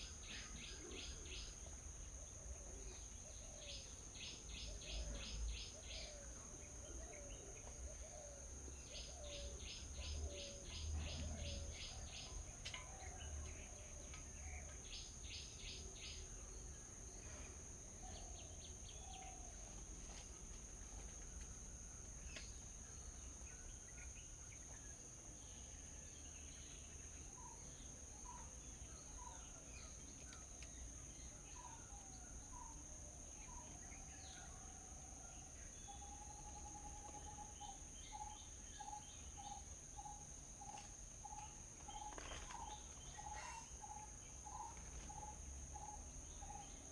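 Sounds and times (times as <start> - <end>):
wild birds chirping and calling: 0.0 - 19.9, 22.2 - 46.9
high insect drone: 0.0 - 46.9.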